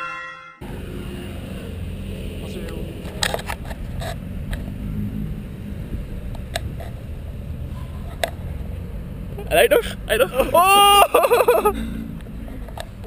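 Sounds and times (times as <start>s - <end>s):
low outdoor rumble: 0.6s - 13.0s.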